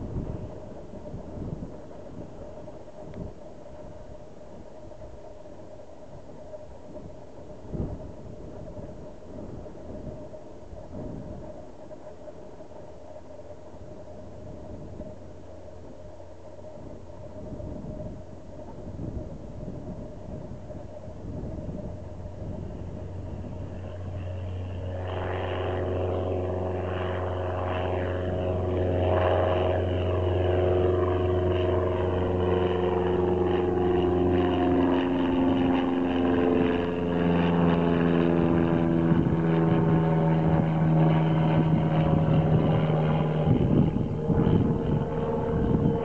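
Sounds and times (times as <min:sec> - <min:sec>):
light aircraft engine and propeller: 0:00.0 - 0:46.0.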